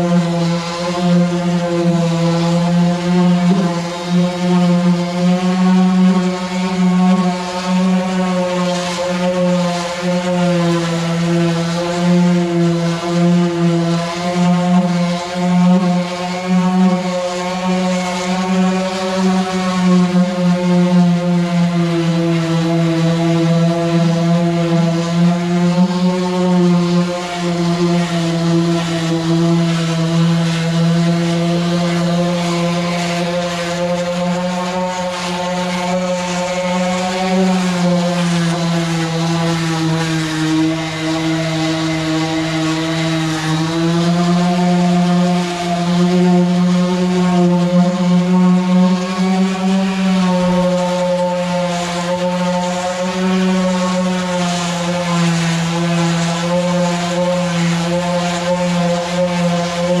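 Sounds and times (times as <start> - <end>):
power sander on aluminum: 0.0 - 60.0.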